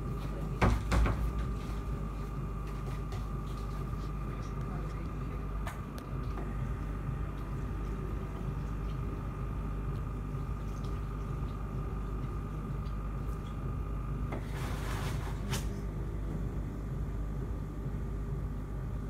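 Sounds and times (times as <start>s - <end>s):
air pump humming with high tone: 0.0s - 19.0s.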